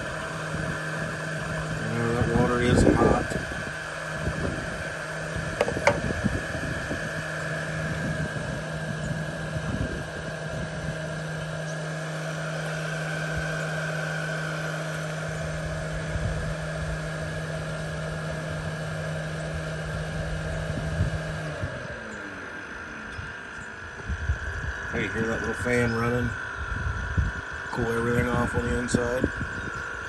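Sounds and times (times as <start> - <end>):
cooling fan humming: 0.0 - 30.0.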